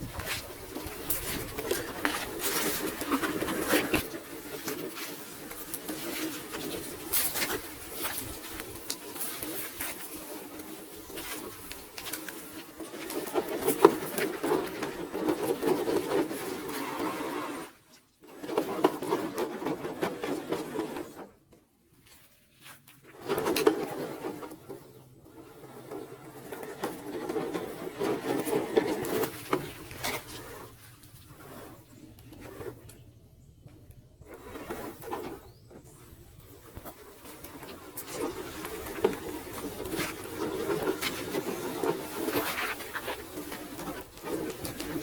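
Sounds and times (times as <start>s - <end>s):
clicks of tyres and stones: 0.0s - 21.3s, 22.0s - 45.0s.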